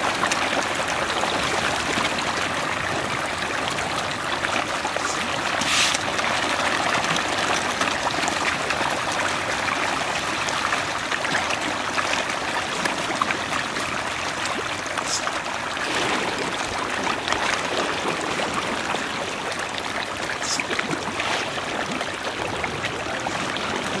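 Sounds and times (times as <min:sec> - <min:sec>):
fish splashing at water surface: 0:00.0 - 0:24.0.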